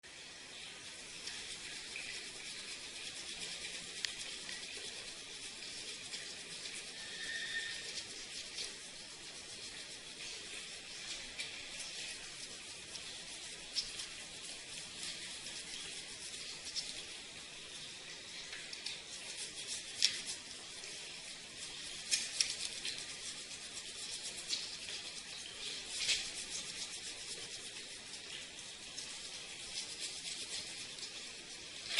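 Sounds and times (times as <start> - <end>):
brush scrubbing: 0.8 - 31.9.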